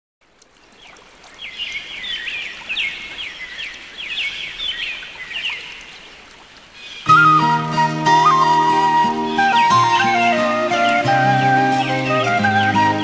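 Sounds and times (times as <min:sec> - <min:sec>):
birds chirping and twittering: 0:00.6 - 0:07.4, 0:09.2 - 0:13.0.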